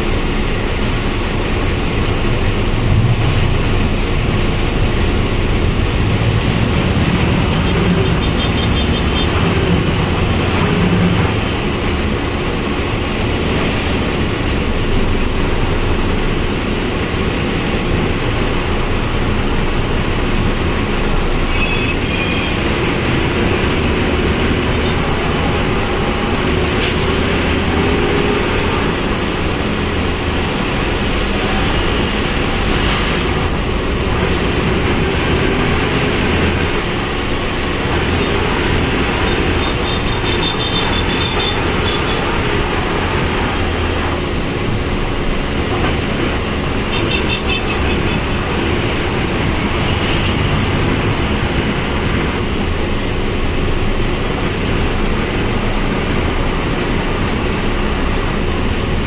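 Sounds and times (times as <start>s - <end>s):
bus engine and road noise: 0.0s - 59.0s.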